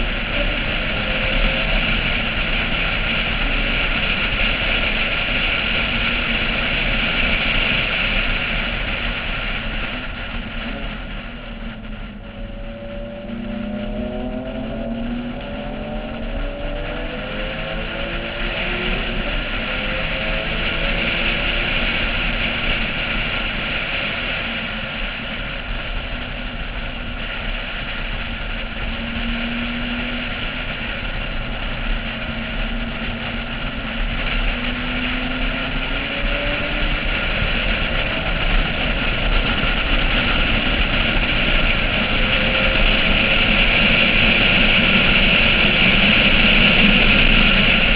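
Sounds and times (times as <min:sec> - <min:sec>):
car engine revving: 0:00.0 - 0:47.9
road noise: 0:00.0 - 0:47.9
wind rushing: 0:00.0 - 0:47.9.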